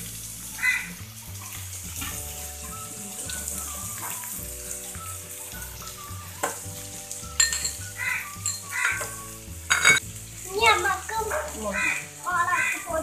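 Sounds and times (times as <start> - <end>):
vegetables sizzling in wok: 0.0 - 13.0.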